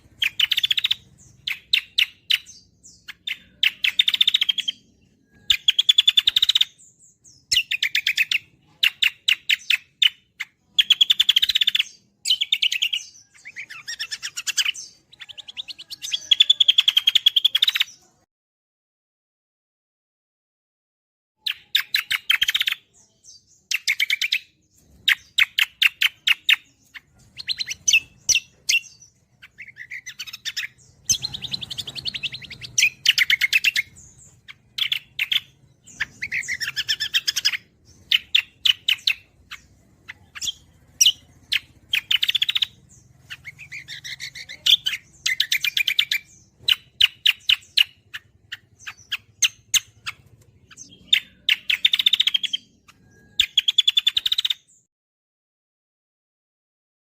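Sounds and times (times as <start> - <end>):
songbird trilling: 0.0 - 18.0, 21.4 - 54.8.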